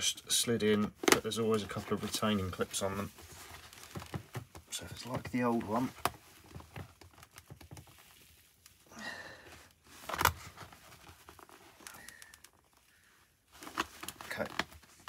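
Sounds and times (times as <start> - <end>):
rustling of helmet liner: 0.3 - 15.0.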